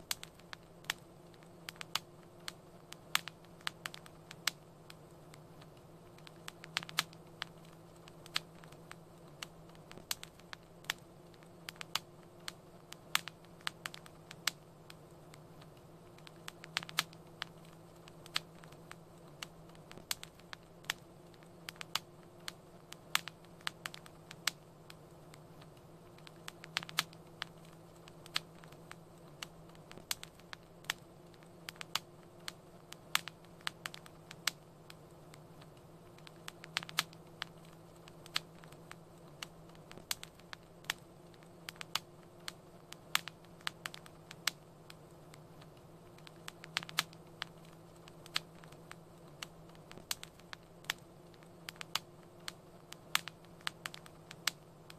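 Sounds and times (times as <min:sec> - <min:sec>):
faint low hum: 0:00.0 - 0:54.9
wood fire crackling: 0:00.0 - 0:54.9.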